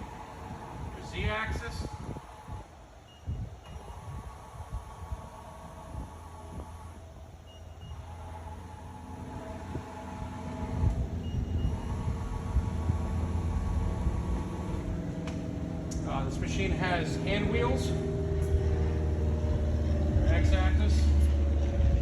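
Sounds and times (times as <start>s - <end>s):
milling machine drive whine: 0.0s - 22.0s.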